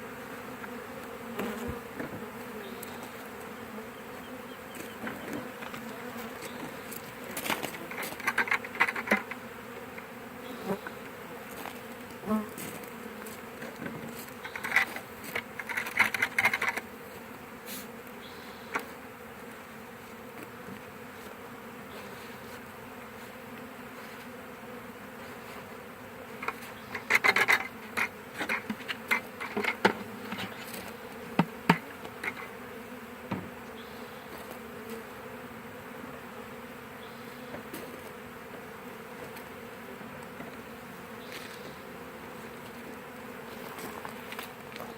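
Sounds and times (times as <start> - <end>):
bees buzzing: 0.0 - 44.9.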